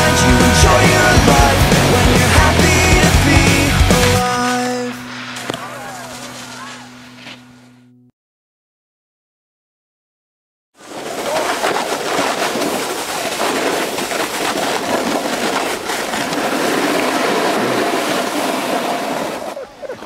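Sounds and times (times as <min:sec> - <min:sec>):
snowboards sliding over snow: 0:00.0 - 0:07.6, 0:10.8 - 0:20.0.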